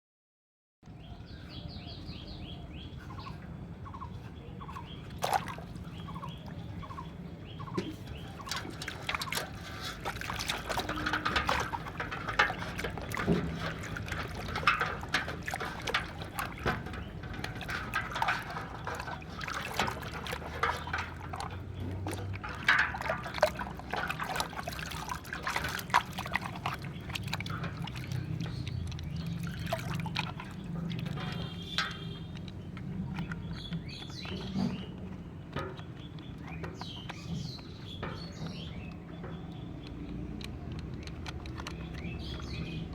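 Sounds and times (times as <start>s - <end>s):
water splashing and dripping: 3.2s - 42.9s.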